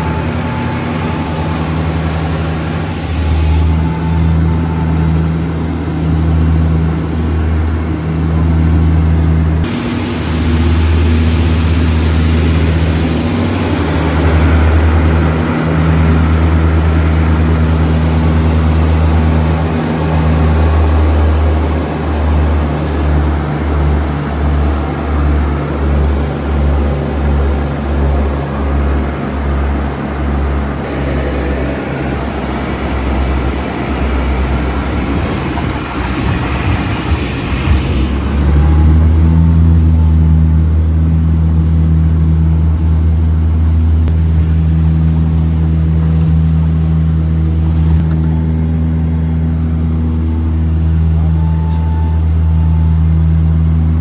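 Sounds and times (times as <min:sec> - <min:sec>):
high whine: 0:00.0 - 0:54.0
throbbing engine drone: 0:00.0 - 0:54.0.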